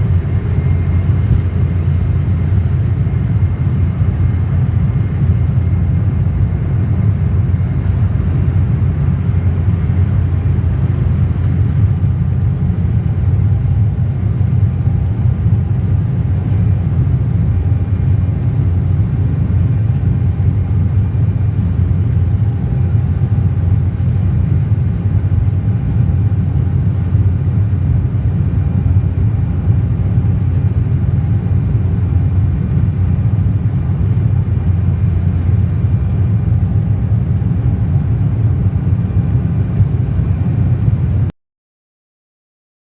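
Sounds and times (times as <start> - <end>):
airliner cabin rumble: 0.0 - 41.3.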